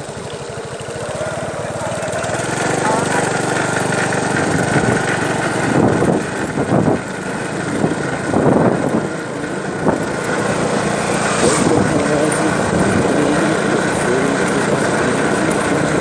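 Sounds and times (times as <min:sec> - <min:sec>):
engine running: 0:00.0 - 0:16.0
loud irregular sounds: 0:01.3 - 0:16.0.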